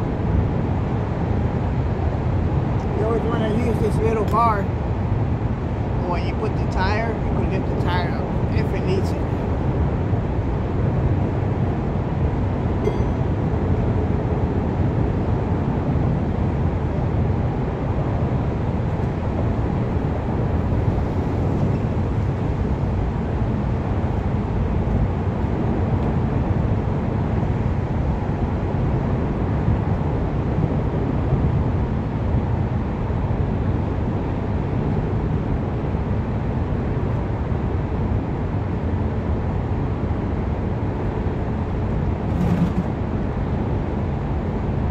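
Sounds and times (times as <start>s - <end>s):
low rumble of city traffic: 0.0s - 44.9s.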